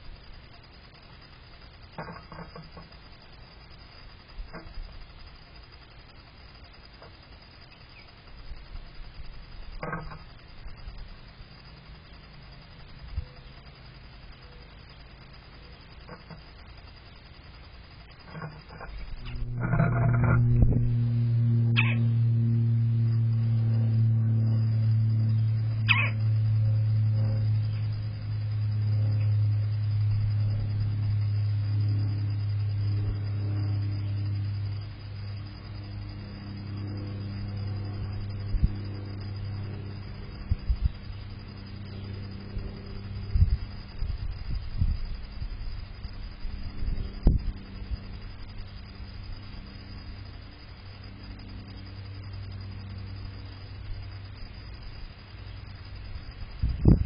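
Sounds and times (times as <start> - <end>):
background hiss: 0.0 - 57.0
low mechanical hum: 0.0 - 57.0.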